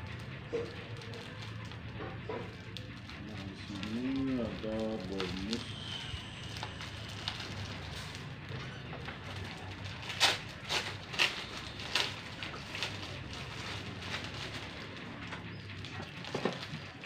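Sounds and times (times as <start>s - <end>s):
plastic crinkling crackles: 0.0s - 17.0s
rummaging through cardboard and plastic: 0.0s - 17.0s
steady low hum: 0.0s - 17.0s.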